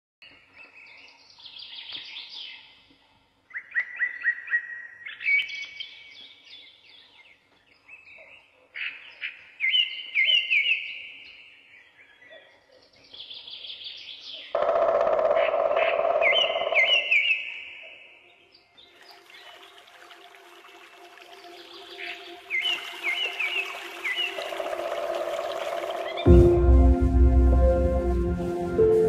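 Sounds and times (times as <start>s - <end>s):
songbird chirps and trills: 0.2s - 26.6s.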